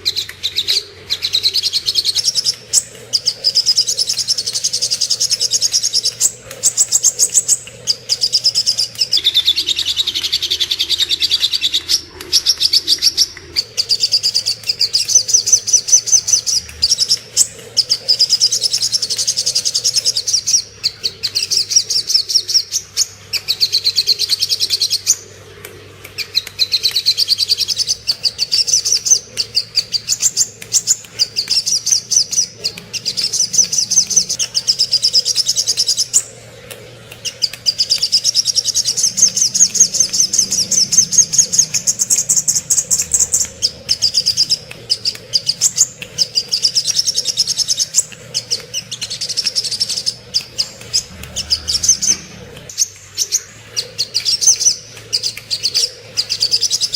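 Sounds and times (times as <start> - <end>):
bird trilling chatter: 0.0 - 25.2, 26.2 - 56.9
faint low hum: 0.0 - 56.9.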